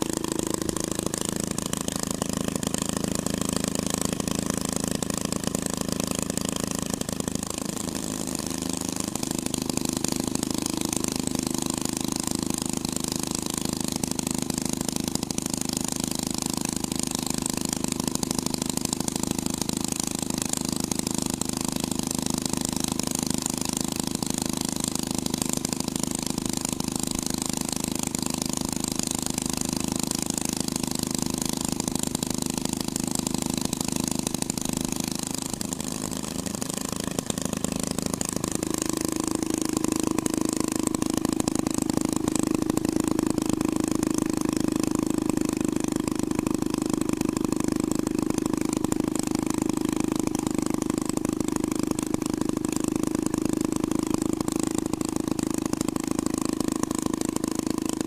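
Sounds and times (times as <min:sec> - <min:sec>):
hot rod engine running: 0:00.0 - 0:58.0.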